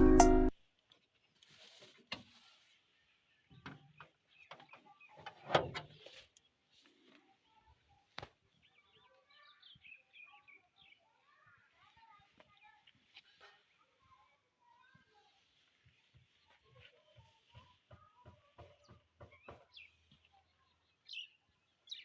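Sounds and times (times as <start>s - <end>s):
small birds chirping: 2.4s - 22.0s.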